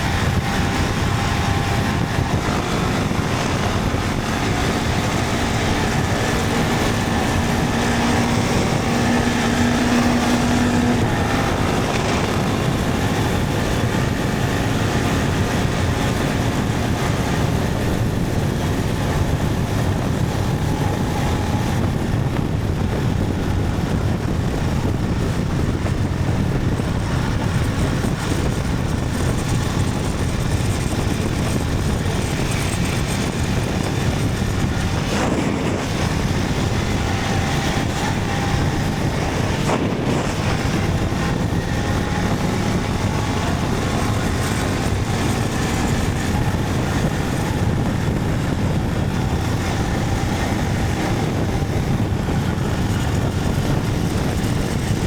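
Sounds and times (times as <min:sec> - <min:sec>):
motorcycle engine running: 0:00.0 - 0:55.0
road noise: 0:00.0 - 0:55.0
wind rushing: 0:00.0 - 0:55.0.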